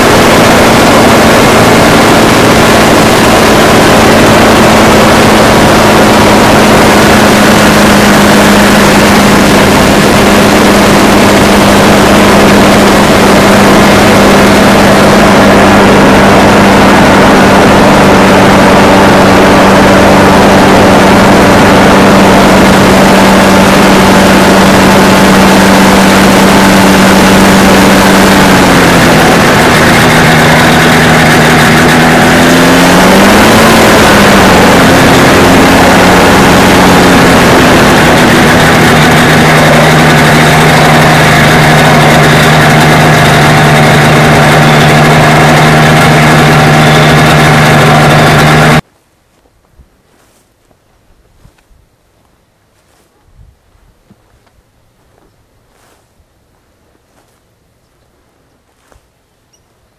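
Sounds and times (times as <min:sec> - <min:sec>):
aircraft engine running: 0:00.0 - 0:48.8.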